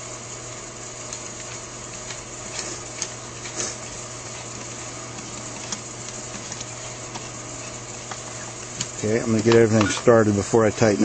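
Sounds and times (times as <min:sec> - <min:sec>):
steady background hiss and hum: 0:00.0 - 0:11.0.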